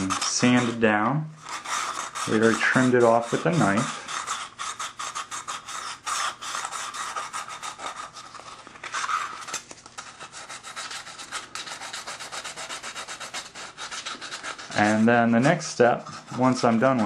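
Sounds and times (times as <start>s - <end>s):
sandpaper scraping metal edge: 0.0s - 17.0s.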